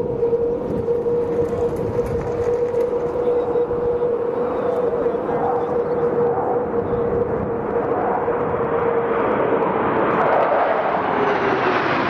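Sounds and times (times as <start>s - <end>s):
fighter jets flying over: 0.0s - 12.0s.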